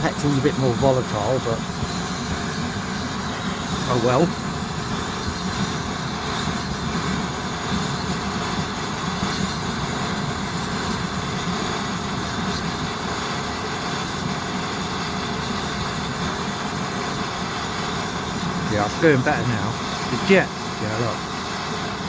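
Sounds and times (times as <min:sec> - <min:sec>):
camping stove hissing: 0:00.0 - 0:22.0.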